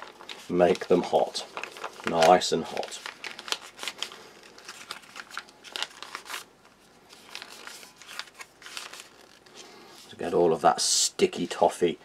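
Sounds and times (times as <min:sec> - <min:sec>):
foil pouch crinkling: 0:00.0 - 0:10.4.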